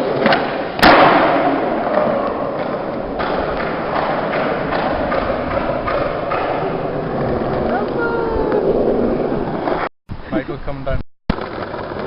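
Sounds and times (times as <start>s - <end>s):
skateboard wheels rolling on pavement: 0.0s - 9.9s, 11.3s - 12.0s.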